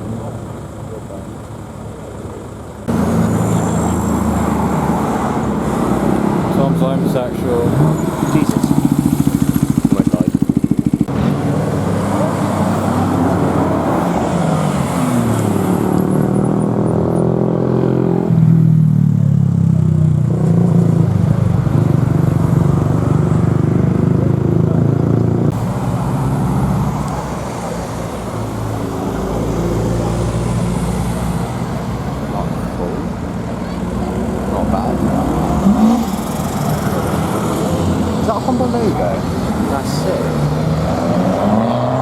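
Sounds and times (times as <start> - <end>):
car engines accelerating past: 2.4 - 42.0.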